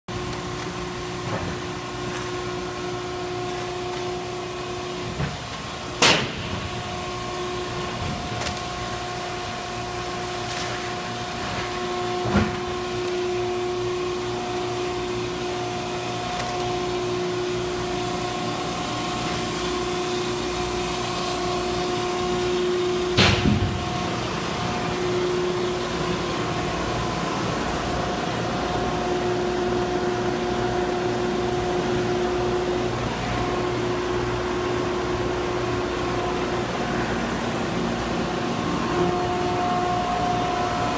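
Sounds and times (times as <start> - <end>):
baler motor humming with whine: 0.1 - 40.9.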